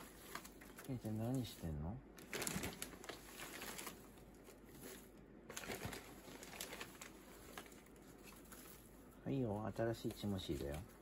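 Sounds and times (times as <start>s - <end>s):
hay and plastic bag rustling: 0.0s - 11.0s.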